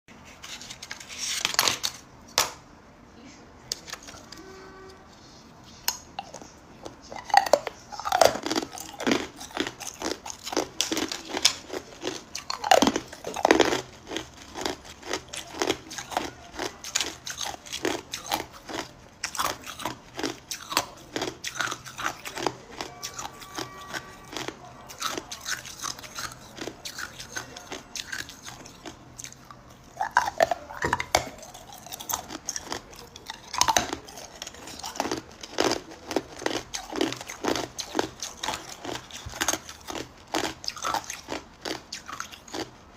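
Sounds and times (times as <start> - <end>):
ice cubes crunching in mouth: 5.9 - 42.8.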